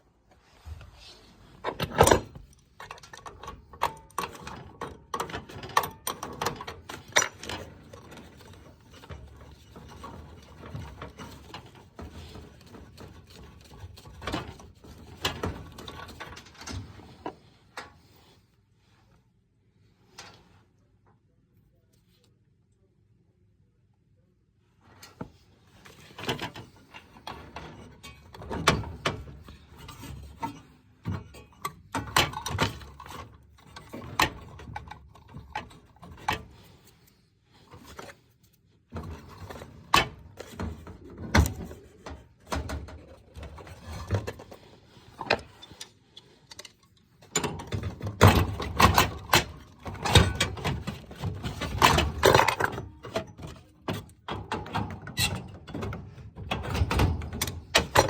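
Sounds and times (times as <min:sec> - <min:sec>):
tools clattering on metal pipework: 0:01.6 - 0:18.2, 0:25.0 - 0:38.2, 0:38.9 - 0:58.0.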